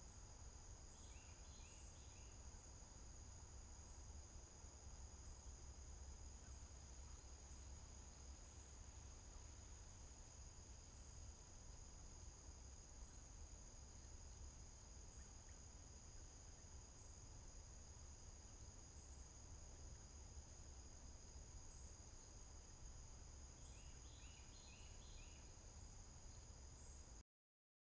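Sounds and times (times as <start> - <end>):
high-pitched insect chorus: 0.0 - 27.2.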